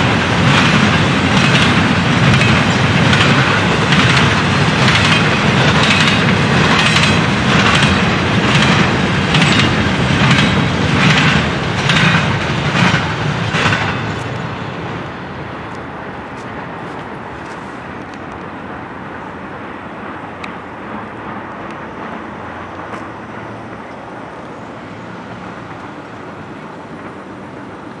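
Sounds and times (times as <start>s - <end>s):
road vehicles crossing tracks: 0.0s - 28.0s
train rumble: 0.0s - 28.0s.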